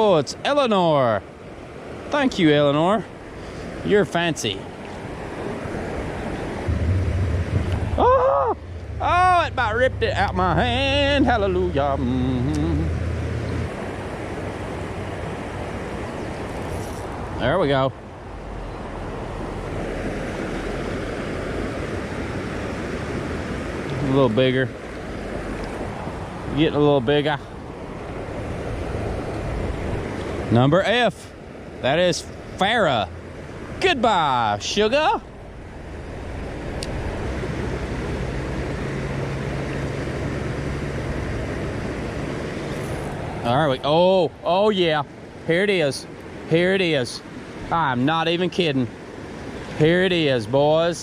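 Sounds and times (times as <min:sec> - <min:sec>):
water rushing over spillway: 0:01.8 - 0:17.9, 0:18.9 - 0:51.0.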